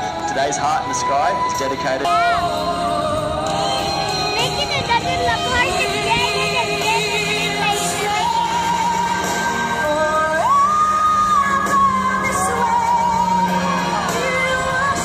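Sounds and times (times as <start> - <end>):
song over loudspeakers: 0.0 - 15.0
person singing long notes: 1.4 - 15.0.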